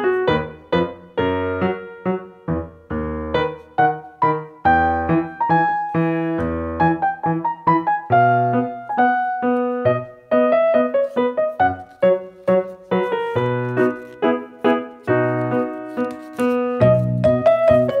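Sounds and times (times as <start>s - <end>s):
keyboard playing light melody: 0.0s - 18.0s.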